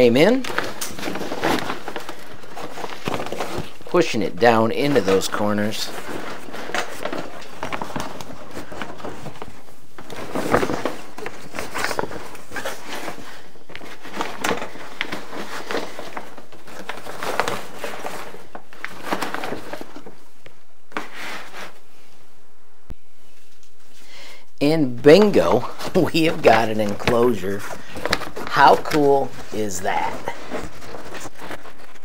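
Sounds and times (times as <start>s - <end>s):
foil-lined fabric crinkling: 0.0s - 20.4s, 25.2s - 32.0s.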